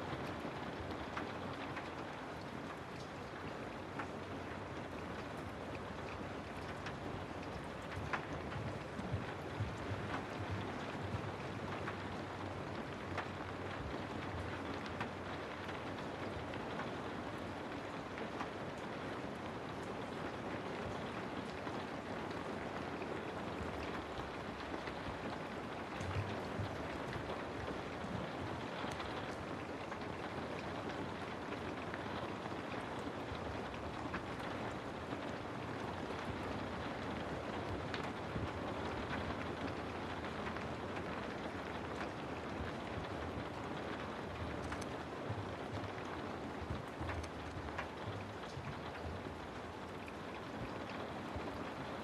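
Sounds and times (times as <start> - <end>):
raindrops ticking: 0.0 - 52.0
steady rain hiss: 0.0 - 52.0.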